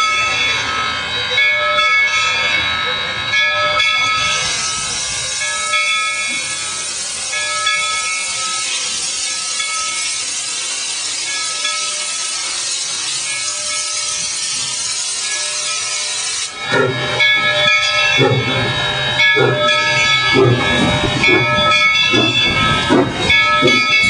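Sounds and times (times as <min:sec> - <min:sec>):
steam hissing: 0:04.1 - 0:24.0.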